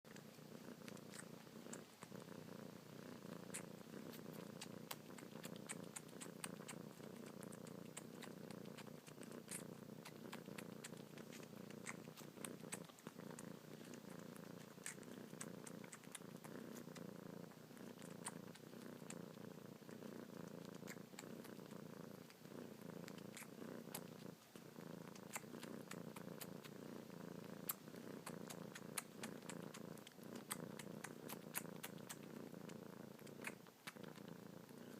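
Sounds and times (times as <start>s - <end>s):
kitten purring: 0.0s - 34.9s.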